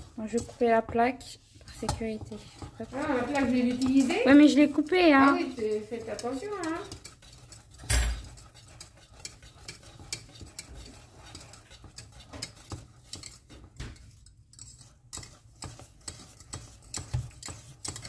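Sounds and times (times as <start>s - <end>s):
whisk scraping a saucepan: 0.0s - 18.0s.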